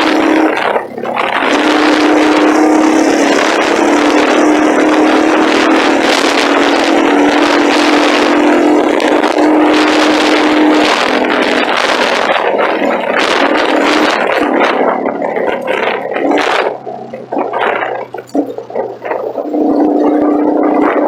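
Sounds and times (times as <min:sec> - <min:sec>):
loud engine exhaust at steady revs: 0:00.0 - 0:21.0.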